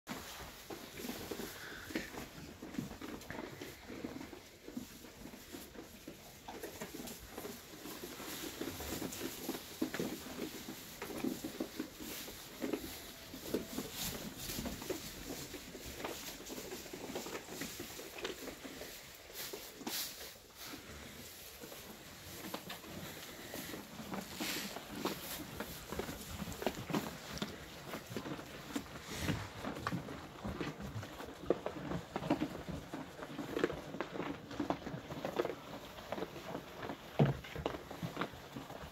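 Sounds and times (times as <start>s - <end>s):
sheep rustling on straw: 0.1s - 38.9s.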